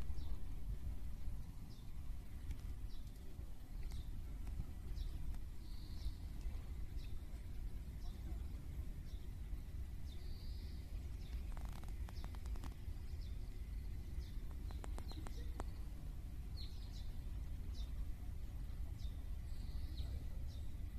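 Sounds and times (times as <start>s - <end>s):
small birds chirping: 0.0s - 0.6s, 1.4s - 20.9s
steady low rumble: 0.0s - 20.9s.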